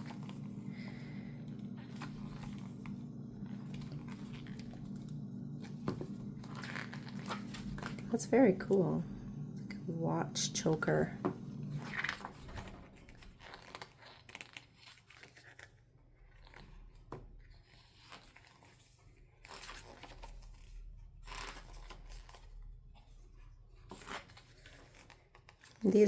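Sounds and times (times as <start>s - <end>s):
book pages turning: 0.0s - 8.2s, 11.6s - 23.1s, 23.8s - 25.8s.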